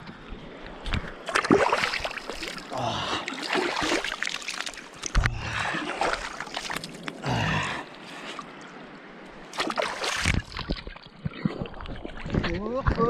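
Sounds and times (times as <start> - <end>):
river water splashing: 0.9 - 12.4.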